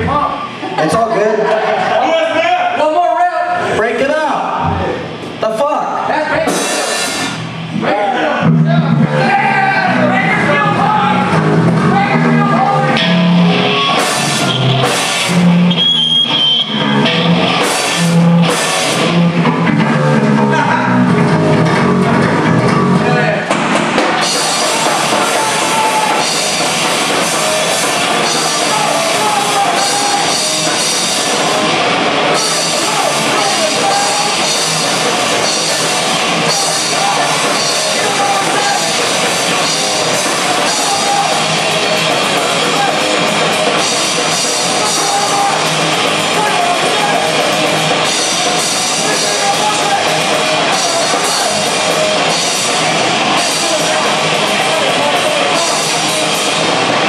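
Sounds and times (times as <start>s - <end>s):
bass guitar: 0.0s - 0.8s, 6.4s - 57.0s
distorted electric guitar: 6.4s - 57.0s
drum kit: 6.4s - 57.0s.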